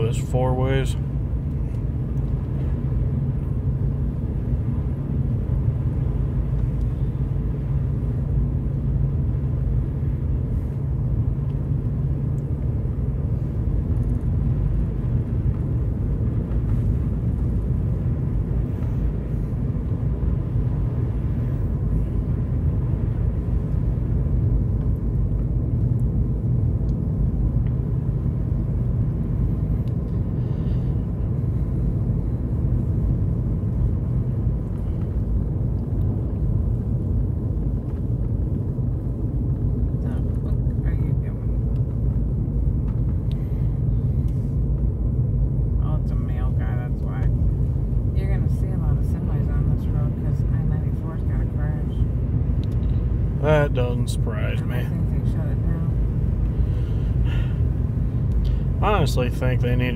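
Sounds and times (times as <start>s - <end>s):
vehicle driving on snowy road: 0.0s - 59.9s.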